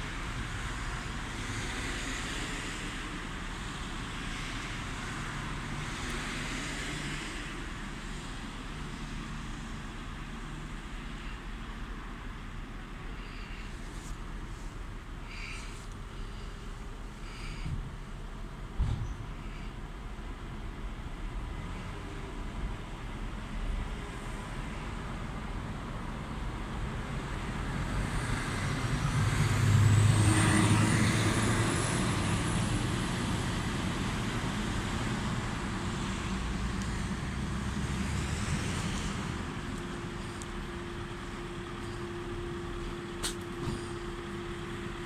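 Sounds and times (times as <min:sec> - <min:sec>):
road vehicle passing: 0:00.0 - 0:18.7, 0:19.3 - 0:45.0.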